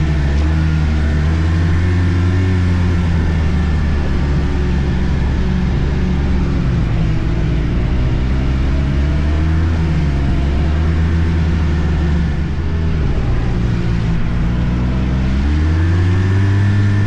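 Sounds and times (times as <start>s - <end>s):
constant rushing noise: 0.0s - 17.0s
snowmobile engine running: 0.0s - 17.0s.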